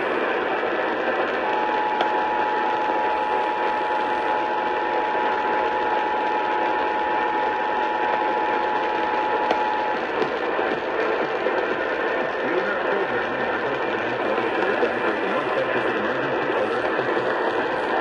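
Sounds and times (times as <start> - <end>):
radio static: 0.0 - 18.0.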